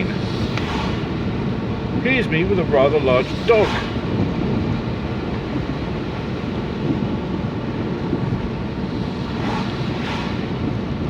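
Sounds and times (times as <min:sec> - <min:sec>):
car road noise on wet roads: 0:00.0 - 0:11.0.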